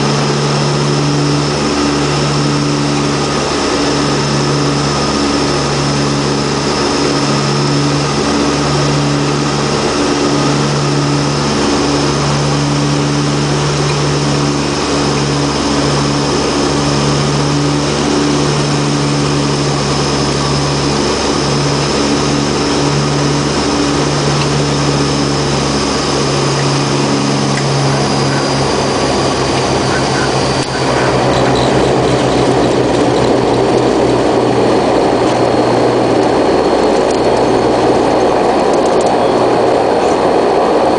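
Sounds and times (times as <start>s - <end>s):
high turbine whine: 0.0s - 40.9s
propellers beating in slow pulse: 0.0s - 40.9s
turboprop engines droning: 0.0s - 40.9s.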